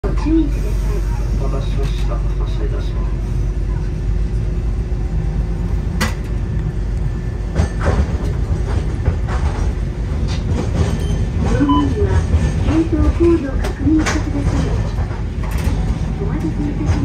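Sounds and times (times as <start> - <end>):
streetcar rumble: 0.0 - 17.0.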